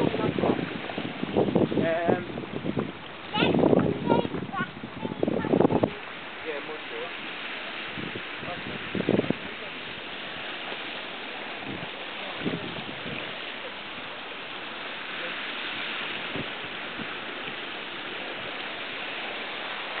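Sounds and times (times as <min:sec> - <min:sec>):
choppy sea water rushing: 0:00.0 - 0:20.0.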